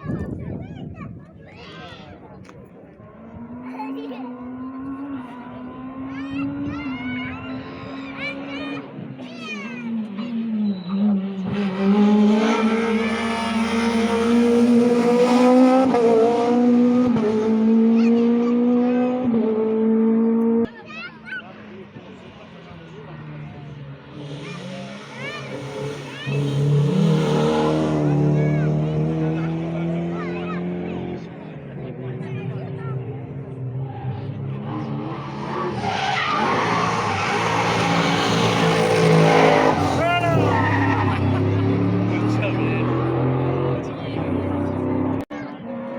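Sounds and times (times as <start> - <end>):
rally car engine at high revs: 3.0 - 20.9, 21.6 - 45.9
tyres skidding: 3.2 - 45.9.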